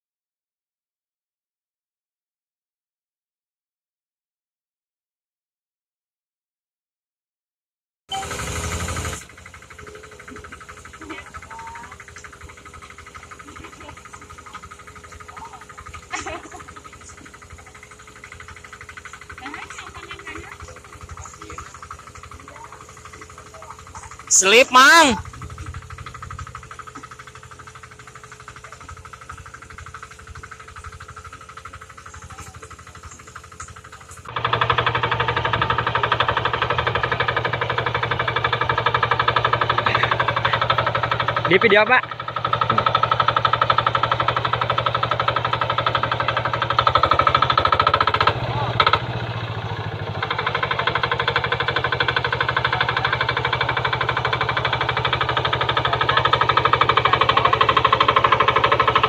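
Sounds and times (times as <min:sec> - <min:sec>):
diesel engine chugging: 0:08.1 - 0:59.0.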